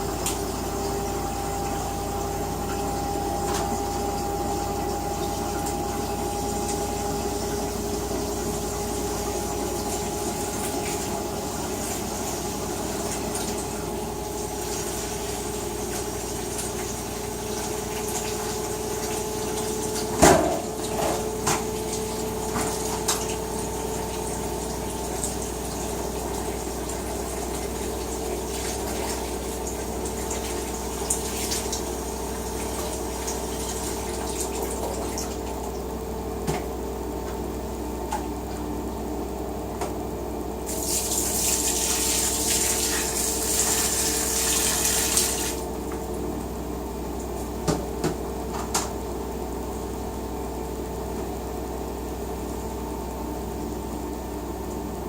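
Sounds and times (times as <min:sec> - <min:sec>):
washing machine hum: 0:00.0 - 0:55.0.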